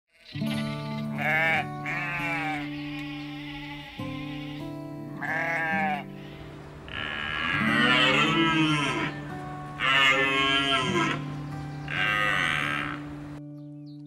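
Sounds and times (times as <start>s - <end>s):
sheep bleating: 0.1s - 13.2s
background music low held notes: 0.2s - 14.0s.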